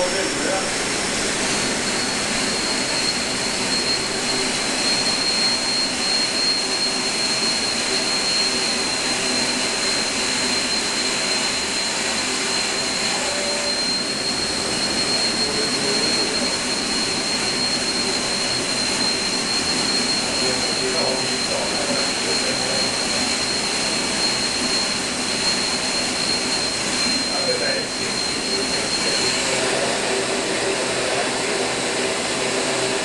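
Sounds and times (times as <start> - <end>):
high-pitched whine: 0.0 - 33.0.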